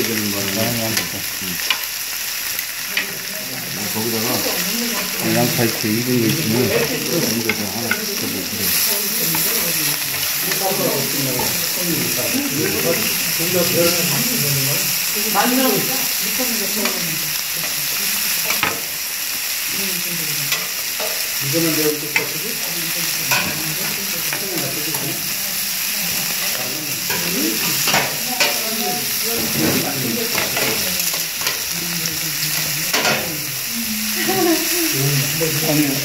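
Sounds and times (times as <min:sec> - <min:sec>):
meat sizzling on a griddle: 0:00.0 - 0:36.0.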